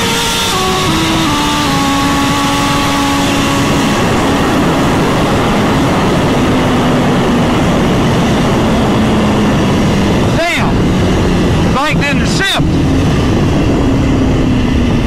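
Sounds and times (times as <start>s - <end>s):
loud rushing noise: 0.0s - 15.0s
motorcycle engine running hard: 0.0s - 15.0s.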